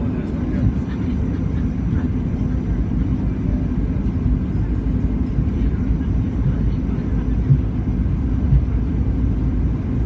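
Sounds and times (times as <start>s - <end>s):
low rumble of engines and wheels: 0.0s - 10.0s.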